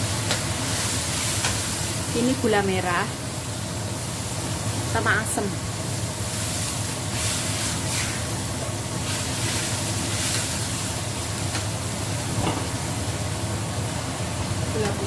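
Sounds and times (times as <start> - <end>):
paste sizzling in a wok: 0.0 - 13.4.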